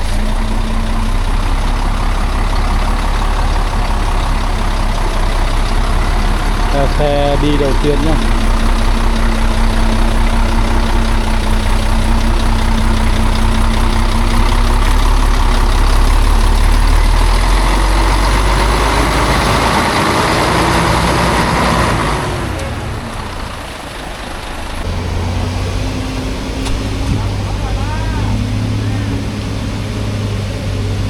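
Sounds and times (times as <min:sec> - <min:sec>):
heavy truck engine running: 0:00.0 - 0:31.0.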